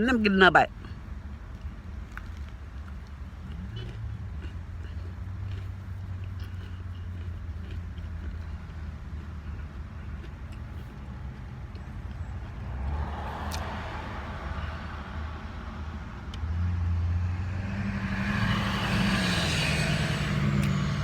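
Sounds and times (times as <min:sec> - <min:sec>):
motor vehicle rumble: 0:00.0 - 0:21.0
road noise: 0:00.0 - 0:21.0.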